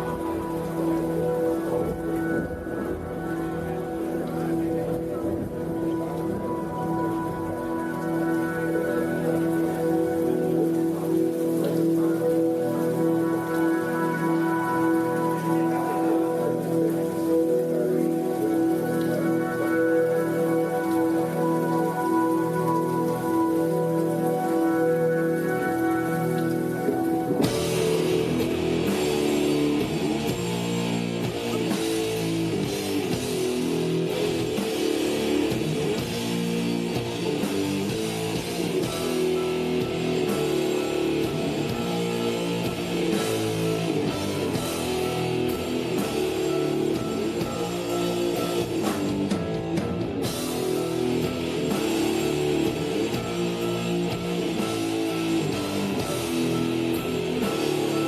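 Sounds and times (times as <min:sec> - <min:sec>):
drum kit: 0:00.0 - 0:58.0
electric guitar: 0:00.0 - 0:58.0
rock band playing: 0:00.0 - 0:58.0.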